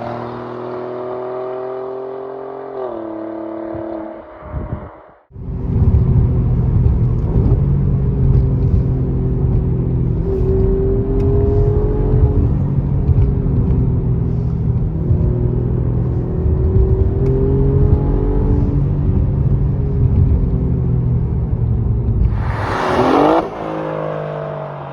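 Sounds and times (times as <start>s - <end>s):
car engine and exhaust drone: 0.0s - 24.9s.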